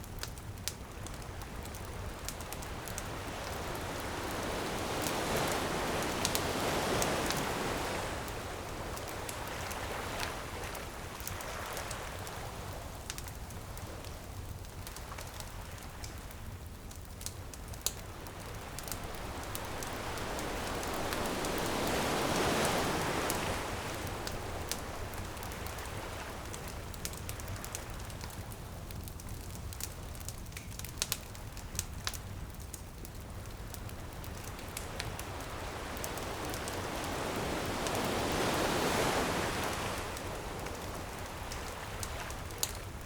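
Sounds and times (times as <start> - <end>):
bonfire crackling and popping: 0.0 - 43.0
ocean waves washing onto beach: 0.0 - 43.0.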